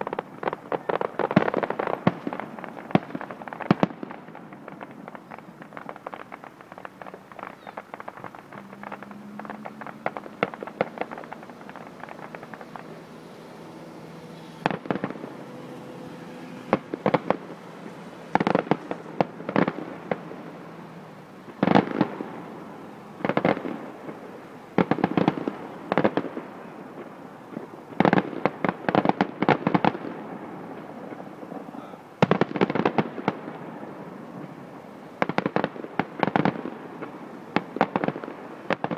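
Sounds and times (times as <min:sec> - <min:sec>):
fireworks crackling bangs: 0:00.0 - 0:38.9.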